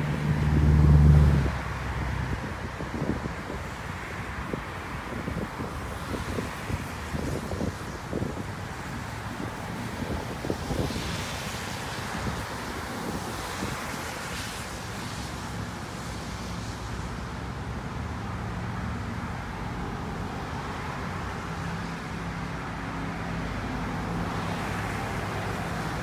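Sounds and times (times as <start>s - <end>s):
road traffic engine hum: 0.0s - 26.0s.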